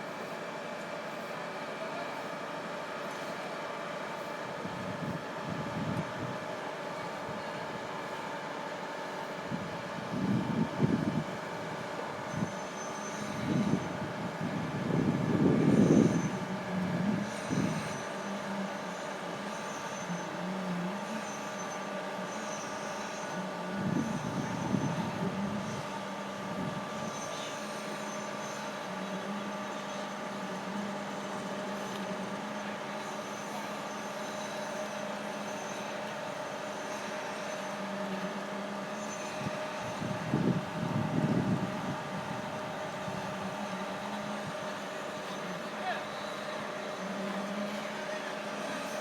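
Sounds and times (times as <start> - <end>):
concrete pump truck humming: 0.0 - 49.0.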